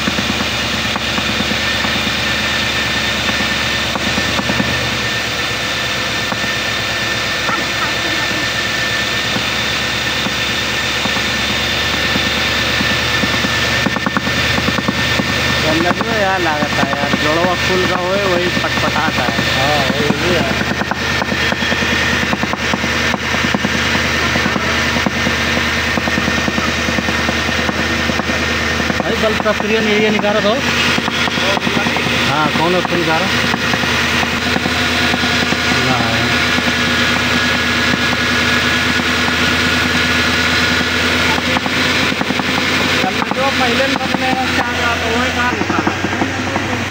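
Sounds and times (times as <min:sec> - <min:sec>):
car engine running: 0:00.0 - 0:46.9
fast even ticking from engine: 0:00.0 - 0:46.9.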